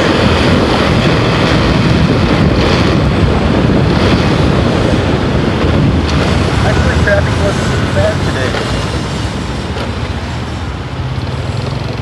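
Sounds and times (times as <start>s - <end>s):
motorcycle running: 0.0s - 12.0s
wind rushing over microphone: 0.0s - 12.0s.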